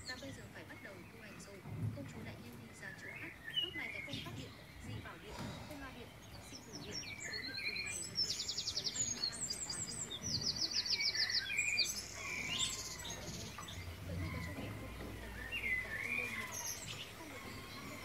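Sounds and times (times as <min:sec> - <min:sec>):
songbirds chirping and whistling: 0:00.0 - 0:18.0.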